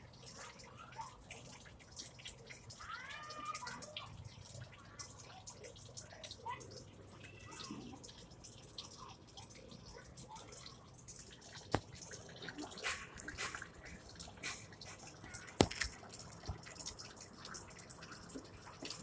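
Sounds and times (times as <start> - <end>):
dripping and ticking: 0.0 - 19.0.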